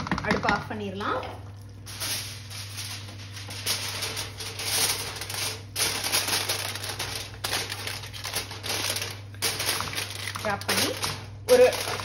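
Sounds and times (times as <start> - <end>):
steady low hum: 0.0 - 12.0
aluminium foil crinkling: 1.4 - 12.0.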